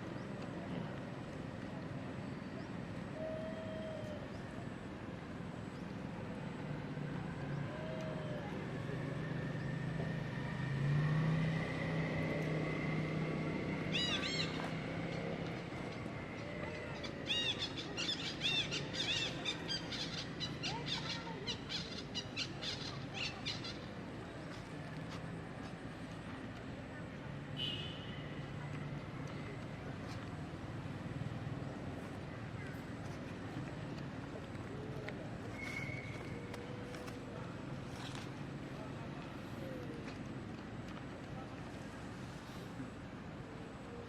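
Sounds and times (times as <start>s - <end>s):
passing vehicle engine hum: 0.0s - 44.0s.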